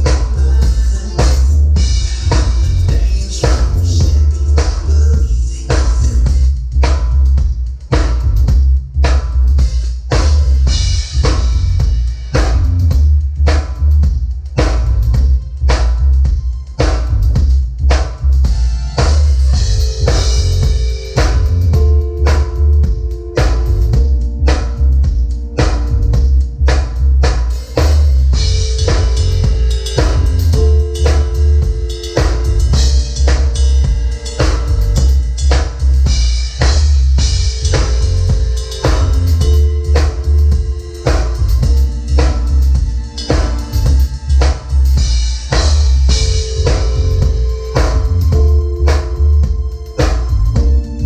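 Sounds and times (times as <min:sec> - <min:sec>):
bass drum and snare hits: 0:00.0 - 0:51.0
heavy sustained bass line: 0:00.0 - 0:51.0
live band playing: 0:00.0 - 0:51.0.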